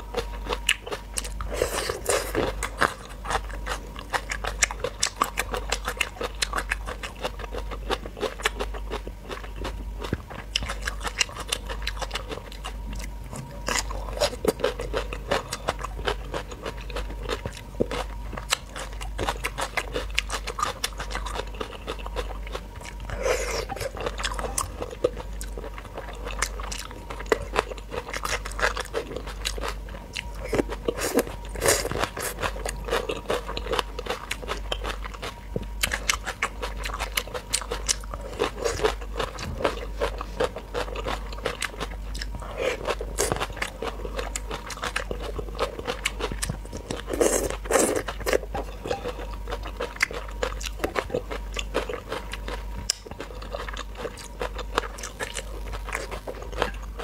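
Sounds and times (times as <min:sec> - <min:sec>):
wet chewing and crunching: 0:00.0 - 0:57.0.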